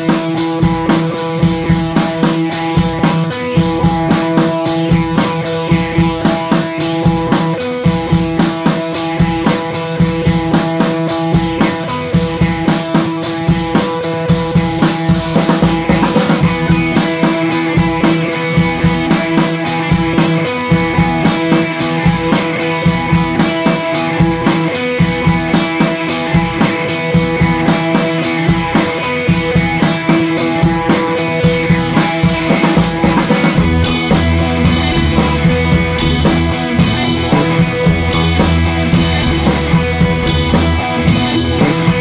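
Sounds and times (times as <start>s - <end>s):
music with steady drum beat: 0.0s - 42.0s.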